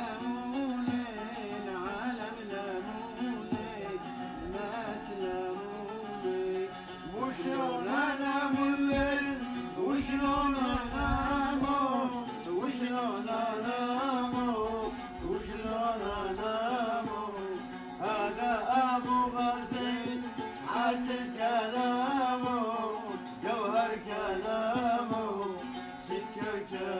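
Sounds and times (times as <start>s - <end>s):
long-necked lute plucked: 0.0s - 26.9s
man singing ornamented notes: 0.0s - 26.9s.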